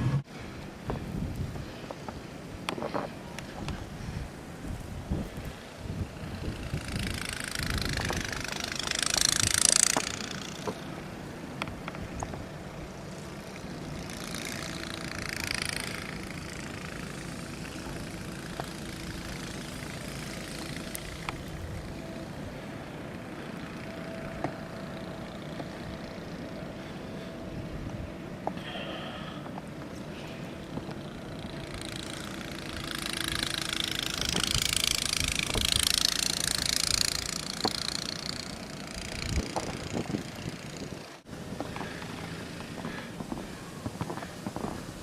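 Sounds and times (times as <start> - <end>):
low engine hum: 0.0 - 45.0
vehicles passing with tyre hiss: 0.0 - 45.0.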